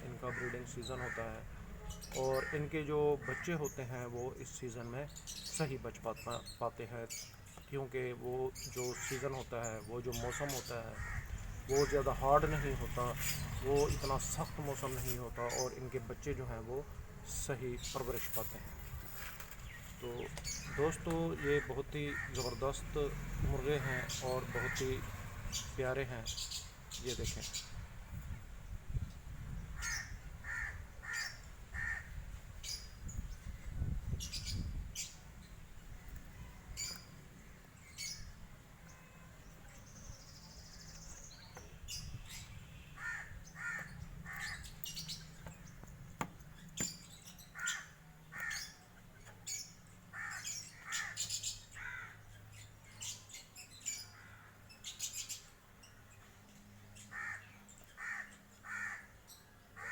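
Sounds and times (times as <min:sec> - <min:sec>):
birds harsh calls: 0:00.0 - 0:59.9.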